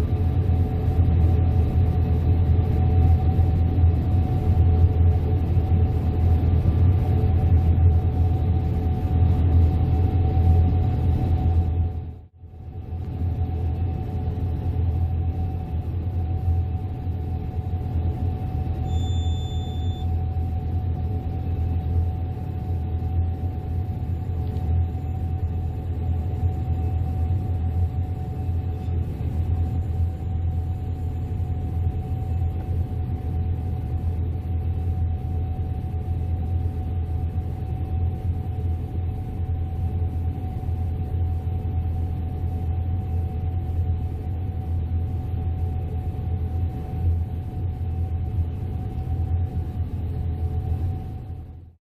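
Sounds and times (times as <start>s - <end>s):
combine harvester running: 0.0s - 51.8s.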